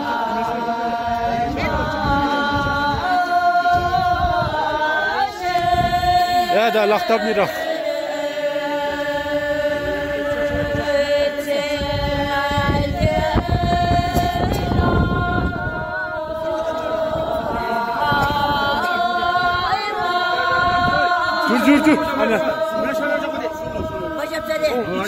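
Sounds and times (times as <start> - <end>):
group of women singing in unison: 0.0 - 25.0.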